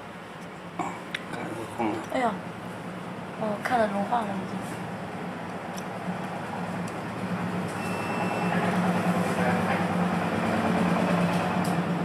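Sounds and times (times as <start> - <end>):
induction heater hum: 0.0 - 12.0.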